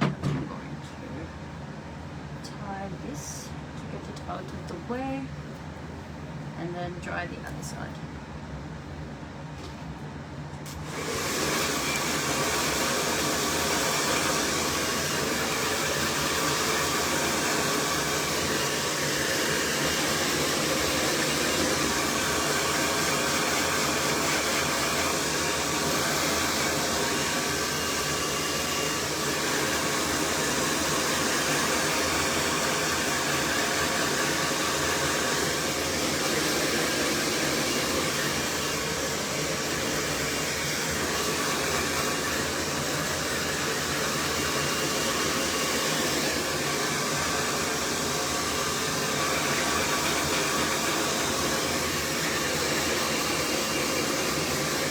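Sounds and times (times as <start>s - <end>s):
hair dryer blowing: 10.6s - 54.9s.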